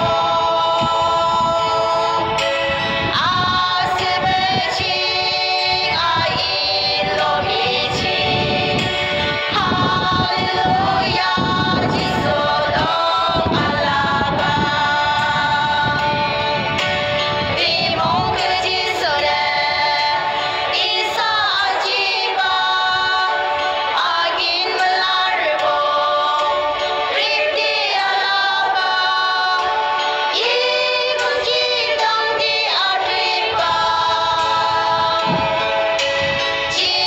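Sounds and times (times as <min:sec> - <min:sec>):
high voice singing: 0:00.0 - 0:37.0
musical backing: 0:00.0 - 0:37.0.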